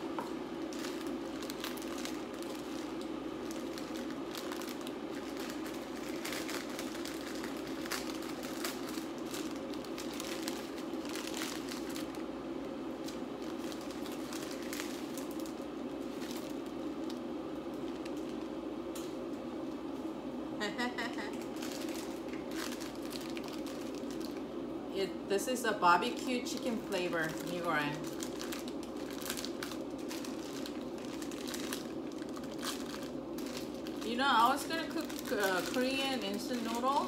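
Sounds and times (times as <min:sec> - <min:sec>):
pot boiling: 0:00.0 - 0:20.4, 0:21.4 - 0:37.0
plastic packaging crinkling: 0:00.1 - 0:18.6, 0:21.3 - 0:24.6, 0:26.0 - 0:37.0.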